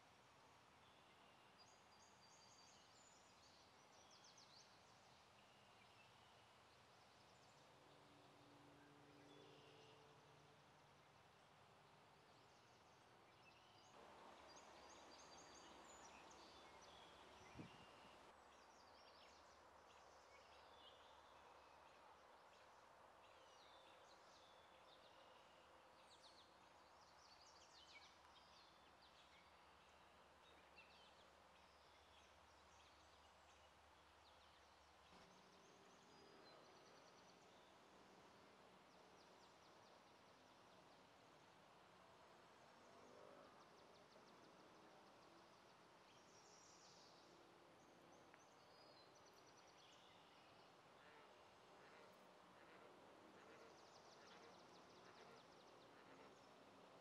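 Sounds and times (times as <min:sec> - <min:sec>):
low steady hiss: 0:00.0 - 0:57.0.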